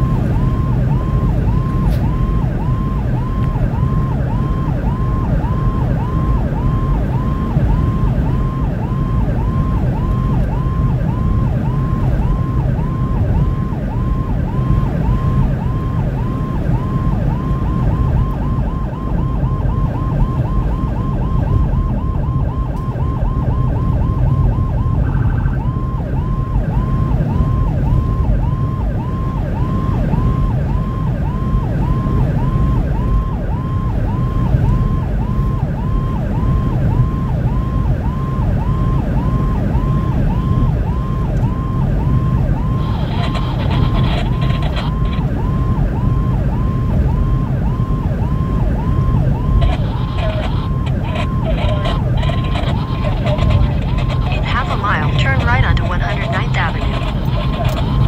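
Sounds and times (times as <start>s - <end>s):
electronic siren yelping: 0.0s - 58.0s
engine and road noise: 0.0s - 58.0s.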